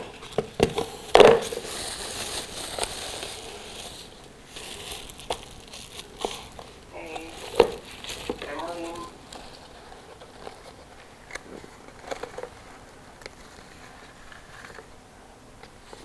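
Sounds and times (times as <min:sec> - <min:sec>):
wrapper crinkling: 0:00.0 - 0:14.9.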